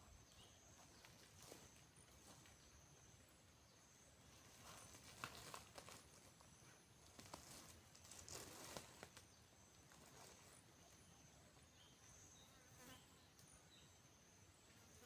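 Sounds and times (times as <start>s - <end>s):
faint high-pitched insects buzzing: 0.0s - 15.0s.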